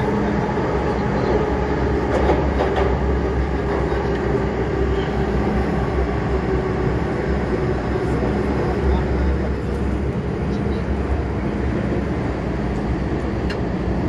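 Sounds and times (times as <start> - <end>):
constant hum: 0.0 - 14.0
train wheels rumbling on rail: 0.0 - 14.0.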